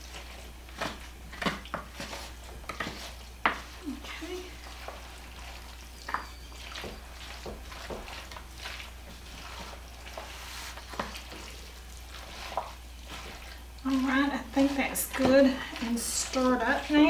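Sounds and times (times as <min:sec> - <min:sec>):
wooden spoon stirring thick mixture: 0:00.0 - 0:17.0.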